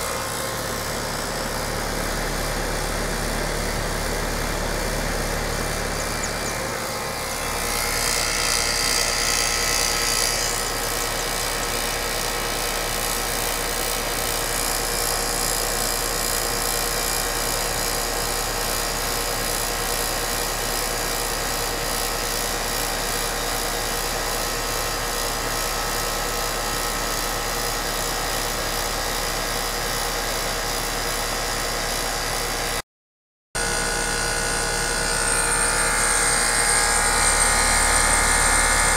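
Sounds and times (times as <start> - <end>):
air conditioner unit humming: 0.0 - 32.5, 33.6 - 38.9.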